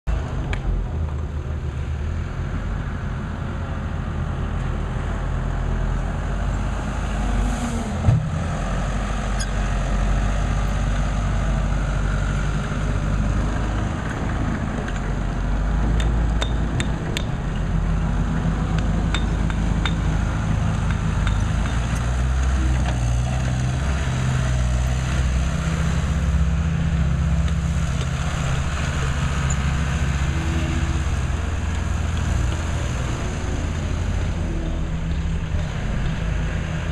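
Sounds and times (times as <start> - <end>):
construction machinery engine running: 0.1 - 36.9.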